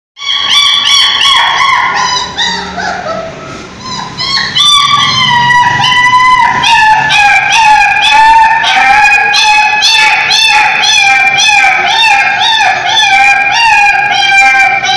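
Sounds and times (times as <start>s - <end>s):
puppy whining and yelping: 0.2s - 14.9s.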